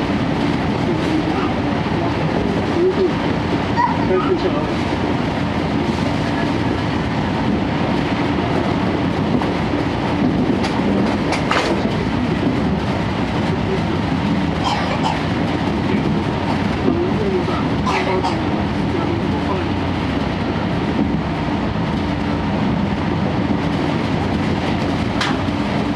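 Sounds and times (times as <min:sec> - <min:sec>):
clacks over rail joints: 0:00.0 - 0:20.1, 0:23.4 - 0:25.9
train wheels rumbling on rail: 0:00.0 - 0:25.9.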